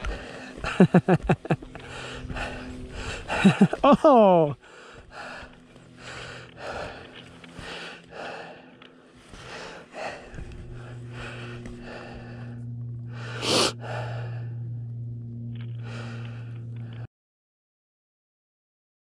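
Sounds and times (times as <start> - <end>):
person breathing hard: 0.0 - 14.8, 15.7 - 17.1
low engine hum: 0.0 - 17.1.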